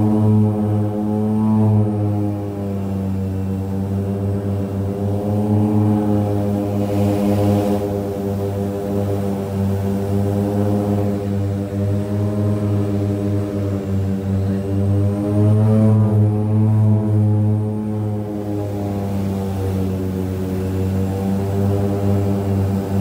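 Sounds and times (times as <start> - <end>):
turboprop cabin drone: 0.0 - 23.0.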